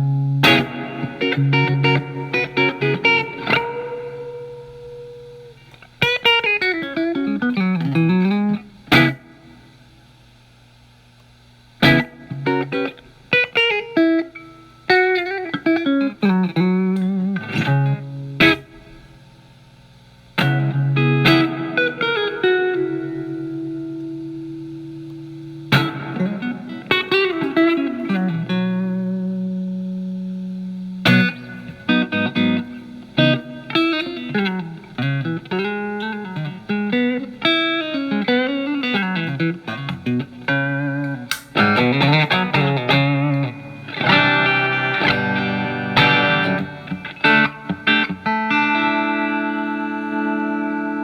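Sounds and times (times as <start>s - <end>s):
electric guitar chords and lead: 0.0s - 10.0s, 11.5s - 19.4s, 20.3s - 51.0s.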